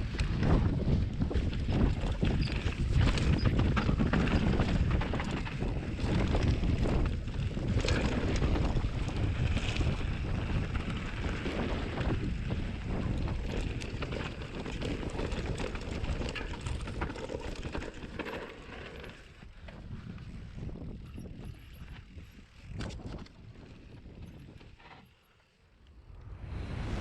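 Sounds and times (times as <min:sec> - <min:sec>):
wind buffeting microphone: 0:00.0 - 0:17.2, 0:19.7 - 0:24.8, 0:25.9 - 0:27.0
mountain bike rattling on dirt: 0:00.0 - 0:25.6.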